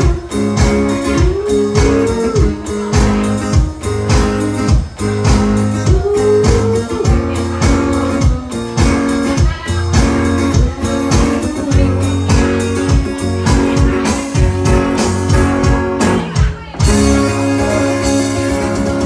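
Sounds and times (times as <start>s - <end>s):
bass guitar: 0.0s - 19.0s
electric guitar: 0.0s - 19.0s
steady drum beat: 0.0s - 19.0s.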